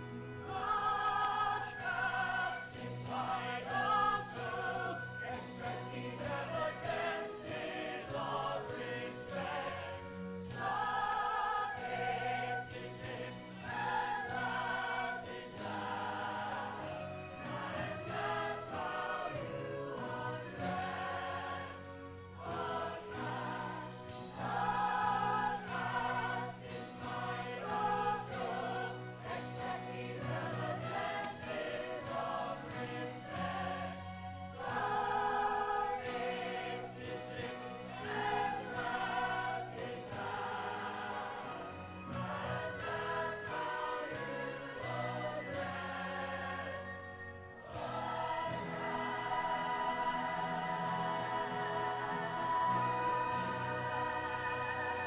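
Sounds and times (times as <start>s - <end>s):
chorus singing: 0.0s - 55.0s.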